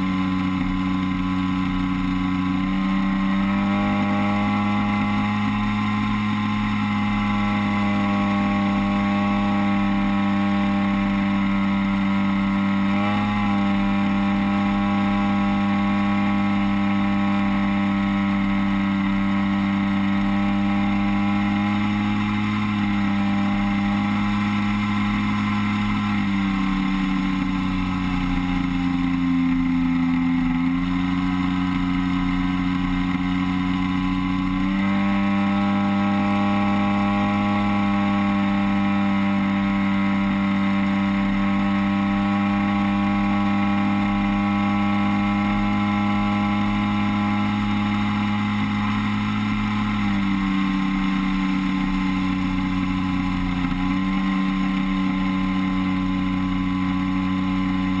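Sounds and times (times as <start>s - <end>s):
model plane engine running: 0.0s - 58.0s.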